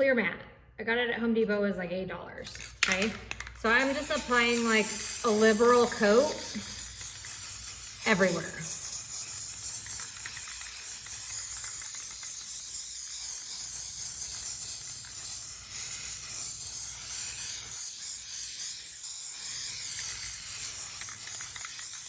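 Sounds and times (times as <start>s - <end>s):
aerosol can spraying: 2.4s - 22.0s.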